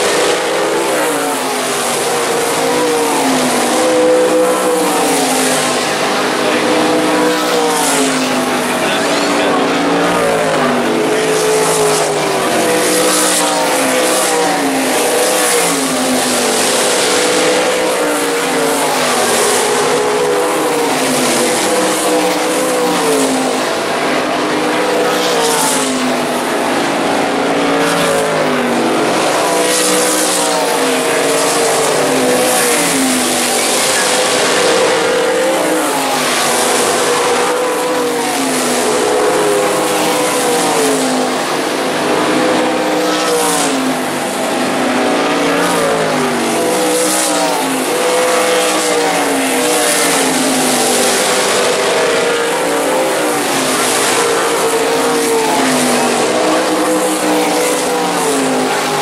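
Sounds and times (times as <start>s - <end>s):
race car engines roaring: 0.0s - 59.0s.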